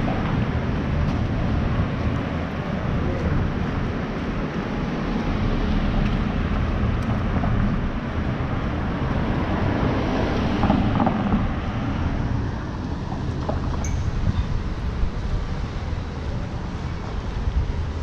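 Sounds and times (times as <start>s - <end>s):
cars passing: 0.0s - 18.0s
wind noise on microphone: 0.0s - 18.0s.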